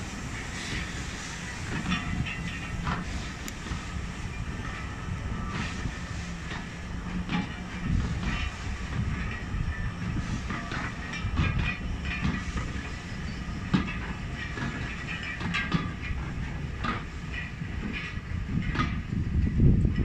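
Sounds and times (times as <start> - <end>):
rumble of train wheels on rails: 0.0 - 20.0
wheels clicking over rail joints: 0.0 - 20.0.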